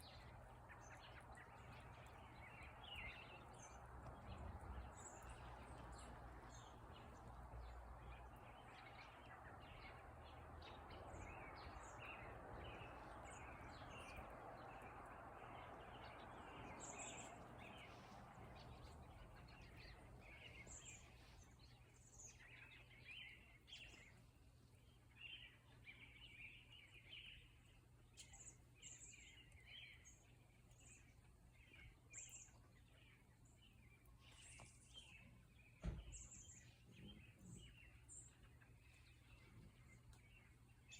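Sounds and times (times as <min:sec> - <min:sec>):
low background noise: 0:00.0 - 0:40.9
small birds chirping: 0:00.0 - 0:40.9.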